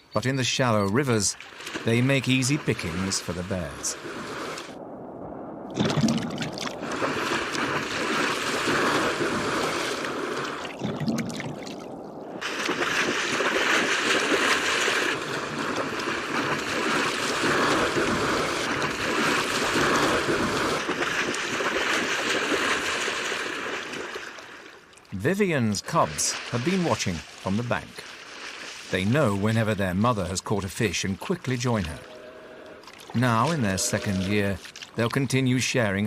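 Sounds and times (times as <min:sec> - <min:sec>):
river water splashing: 0:00.7 - 0:05.0, 0:05.6 - 0:36.0.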